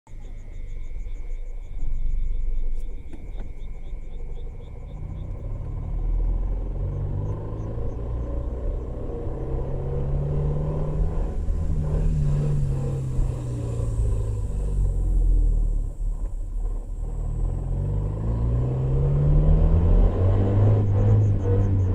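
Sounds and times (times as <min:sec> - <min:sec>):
car engine rumble: 0:00.1 - 0:21.9.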